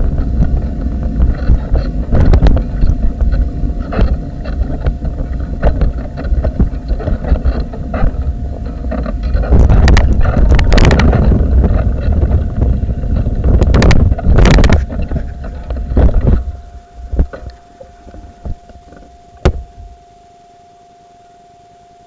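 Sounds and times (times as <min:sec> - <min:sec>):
low rumbling on microphone: 0:00.0 - 0:20.1
faint electronic hum: 0:00.0 - 0:22.0.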